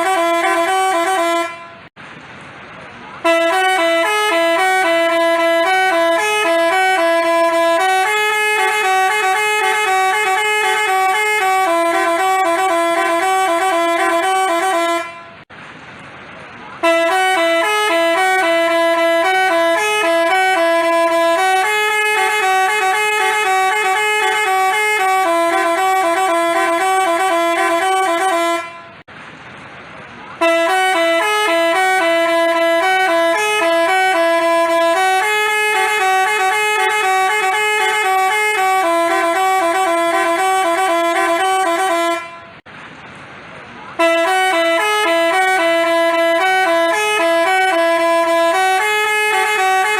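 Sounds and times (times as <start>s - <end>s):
musical horn playing a tune: 0.0s - 1.9s, 3.2s - 15.4s, 16.8s - 29.0s, 30.4s - 42.6s, 44.0s - 49.9s.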